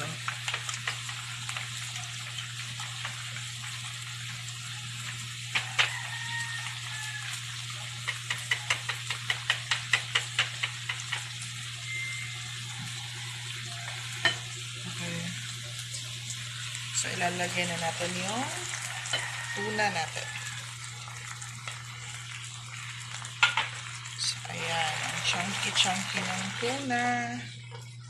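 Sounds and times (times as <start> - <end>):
food sizzling in a frying pan: 0.0 - 28.0.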